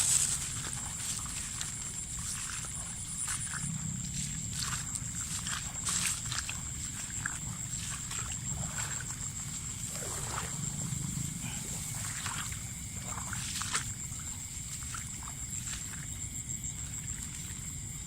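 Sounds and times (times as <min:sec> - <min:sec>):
water sloshing: 0:00.0 - 0:17.7
high-pitched insect drone: 0:00.0 - 0:18.0.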